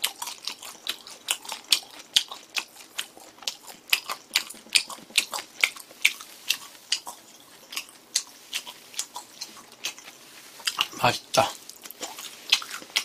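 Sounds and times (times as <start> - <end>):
person chewing meat: 0.0 - 13.0.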